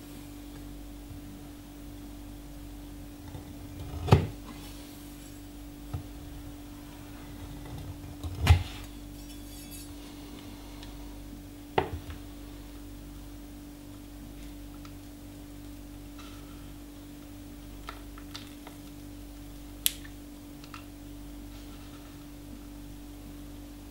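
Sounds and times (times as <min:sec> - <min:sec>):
faint hum: 0:00.0 - 0:23.9.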